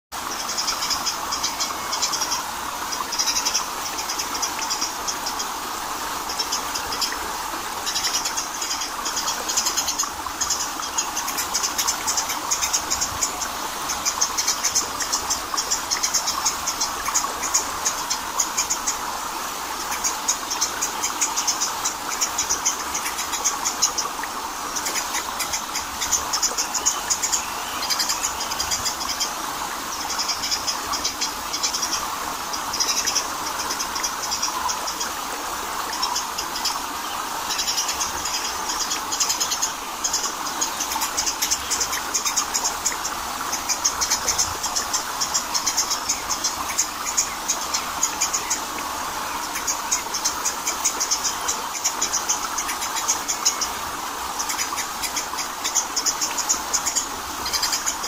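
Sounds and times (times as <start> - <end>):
small waterfall rushing over rock: 0.1 - 58.0.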